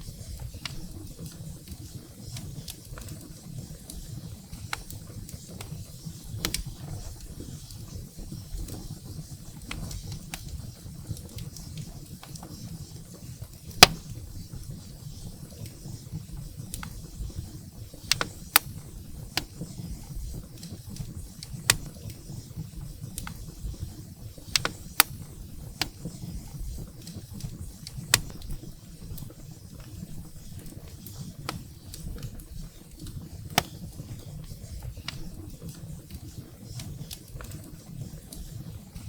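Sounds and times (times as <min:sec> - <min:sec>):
burning logs crackling: 0:00.0 - 0:39.0.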